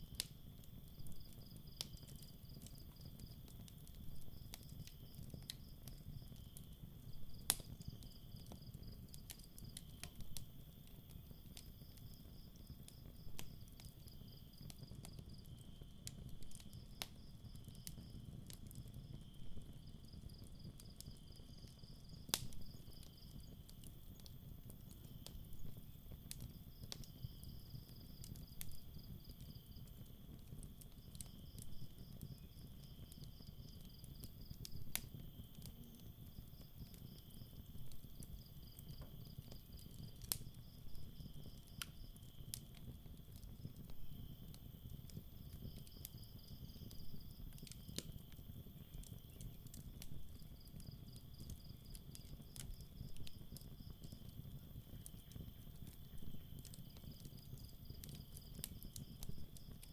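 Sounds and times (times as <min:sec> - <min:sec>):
campfire crackling and popping: 0:00.0 - 0:59.9
crickets trilling: 0:00.4 - 0:59.9.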